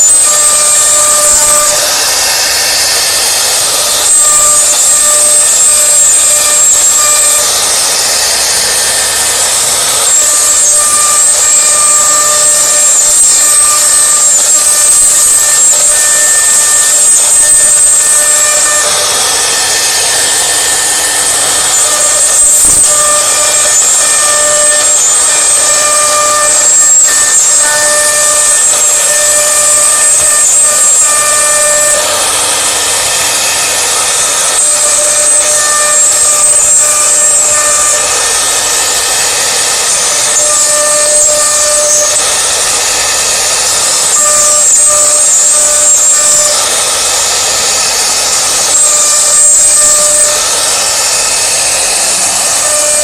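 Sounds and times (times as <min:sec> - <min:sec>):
router bit cutting wood: 0:00.0 - 0:53.0
router spindle whine: 0:00.0 - 0:53.0.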